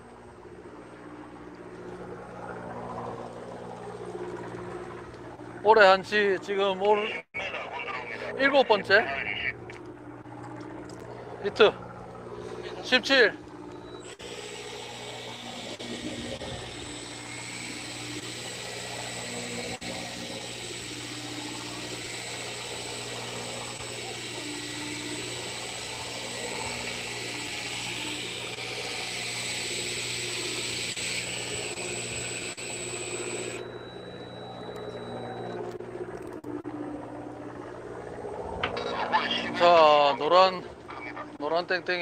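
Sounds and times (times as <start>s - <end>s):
boat engine drone: 0.0s - 42.0s.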